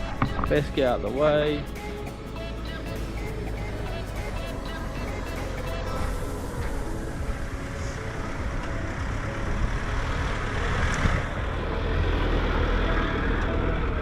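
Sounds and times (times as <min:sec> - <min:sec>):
vehicle engine and tyres rumbling: 0:00.0 - 0:14.0
rushing noise: 0:01.8 - 0:14.0.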